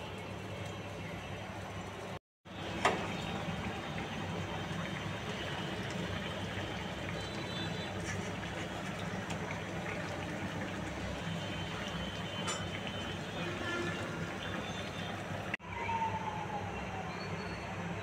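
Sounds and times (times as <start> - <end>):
foamy water boiling: 0.0 - 15.6
liquid boiling in a pan: 0.0 - 15.6.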